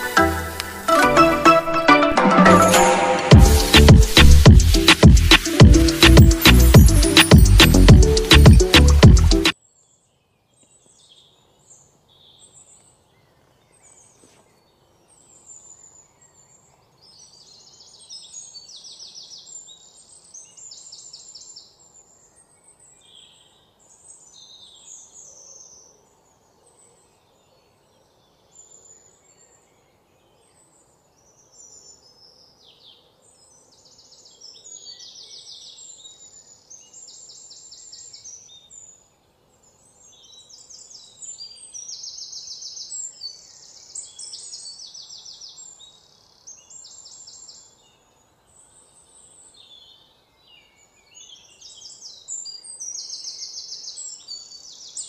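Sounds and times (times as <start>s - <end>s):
small birds chirping and trilling: 3.6s - 55.0s
low background hiss: 9.6s - 55.0s.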